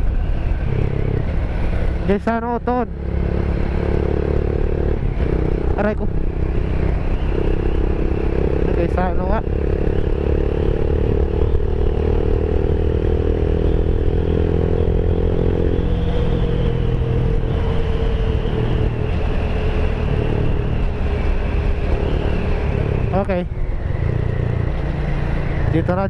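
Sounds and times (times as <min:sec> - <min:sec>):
motorcycle engine running: 0:00.0 - 0:26.0
wind rumble on microphone: 0:00.0 - 0:26.0.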